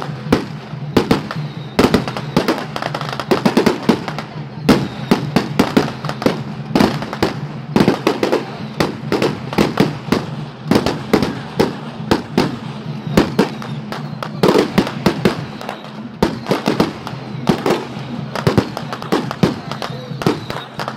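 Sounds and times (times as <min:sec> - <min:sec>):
firecrackers going off: 0:00.0 - 0:20.9.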